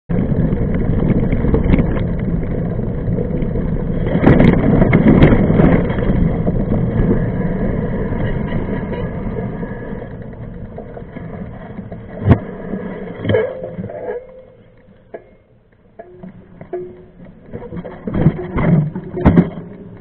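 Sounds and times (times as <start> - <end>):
bike clattering: 0.1 - 20.0
bike tyres rumbling on dirt: 0.1 - 20.0.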